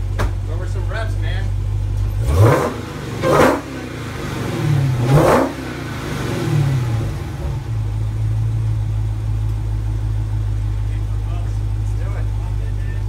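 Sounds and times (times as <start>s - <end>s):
car engine revving: 0.0s - 13.0s
loud exhaust blasts: 0.0s - 13.0s.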